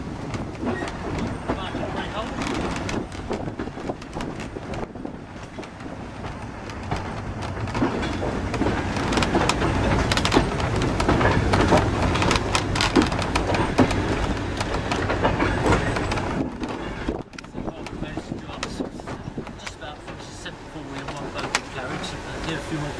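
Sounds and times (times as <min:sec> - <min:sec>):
brake van rumble: 0:00.0 - 0:22.9
wheels clattering and creaking: 0:00.0 - 0:22.9.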